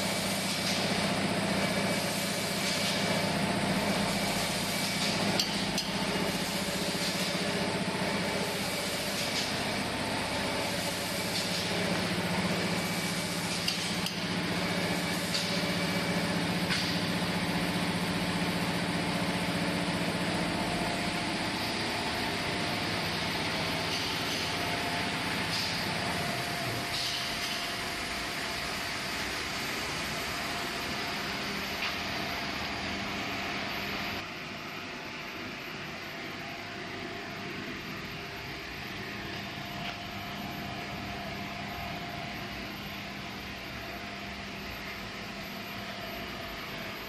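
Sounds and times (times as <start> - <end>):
machine hum and hiss: 0.0 - 47.0.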